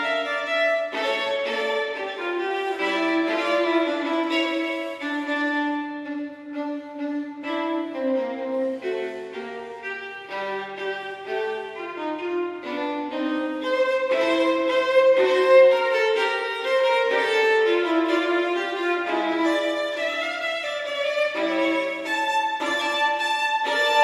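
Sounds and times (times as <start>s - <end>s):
instrumental music with held notes: 0.0s - 24.0s.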